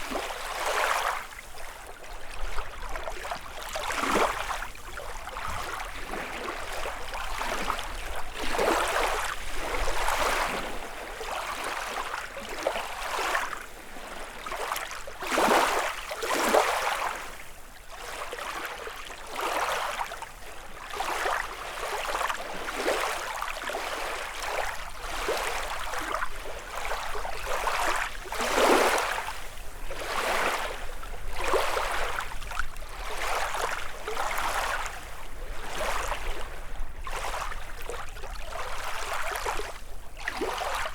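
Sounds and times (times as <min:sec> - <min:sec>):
lake waves lapping on shore: 0:00.0 - 0:40.9.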